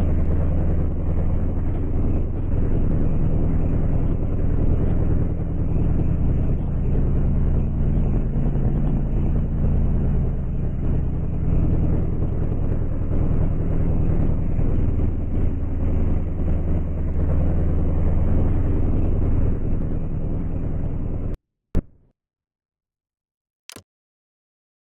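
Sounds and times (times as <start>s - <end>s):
low engine drone: 0.0s - 21.4s.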